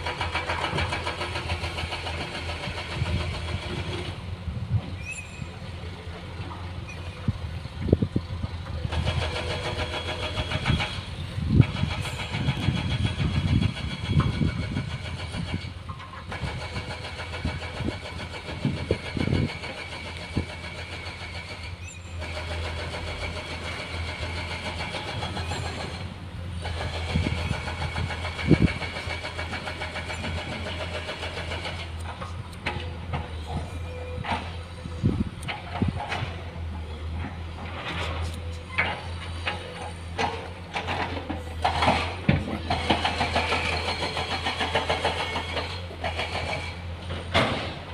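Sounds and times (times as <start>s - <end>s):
distant engine drone with whine: 0.0s - 47.9s.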